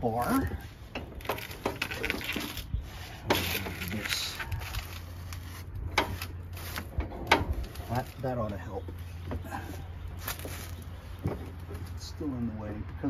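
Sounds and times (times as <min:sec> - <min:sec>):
rustling and scraping: 0:00.2 - 0:12.1.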